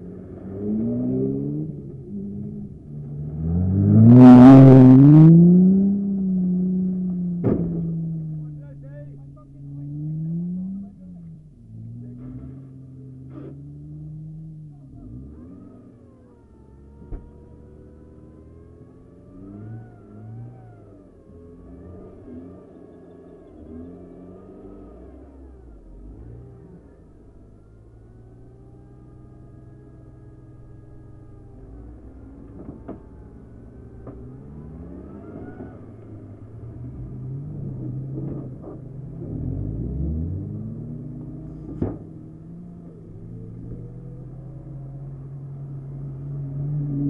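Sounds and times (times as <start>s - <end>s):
engines revving: 0.0s - 47.0s.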